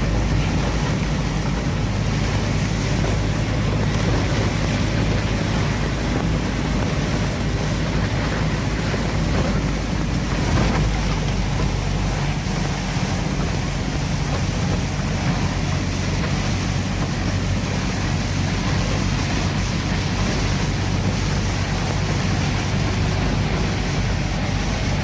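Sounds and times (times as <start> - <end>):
rain and wind on truck cab: 0.0 - 25.0
truck engine running low: 0.0 - 25.0.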